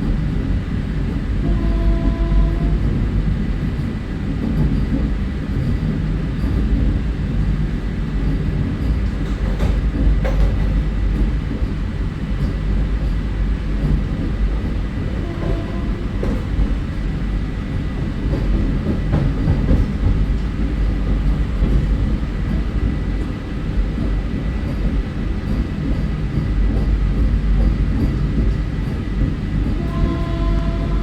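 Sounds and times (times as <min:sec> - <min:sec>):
electric train rumbling on track: 0:00.0 - 0:31.0.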